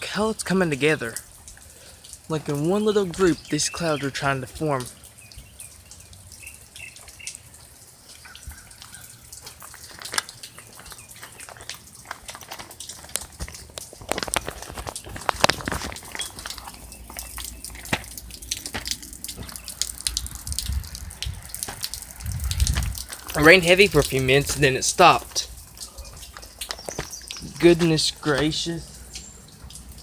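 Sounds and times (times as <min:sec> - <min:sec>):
rain dripping on surfaces: 0:00.0 - 0:30.0.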